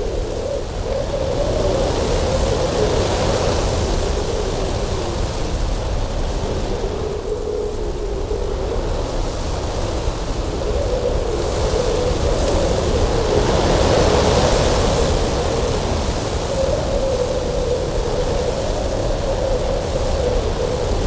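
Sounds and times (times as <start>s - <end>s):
wind blowing hard: 0.0s - 21.0s.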